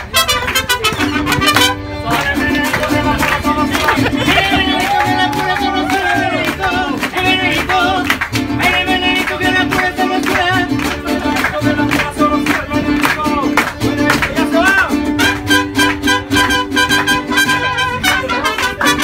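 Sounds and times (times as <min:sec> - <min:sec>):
mariachi band playing: 0:00.0 - 0:19.0
strummed guitars: 0:00.0 - 0:19.0.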